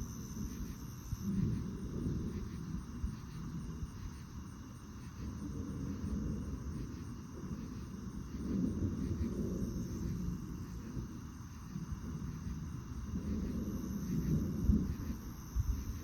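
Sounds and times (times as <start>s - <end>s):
crickets chirring: 0.0s - 16.0s
low uneven rumble: 0.0s - 16.0s.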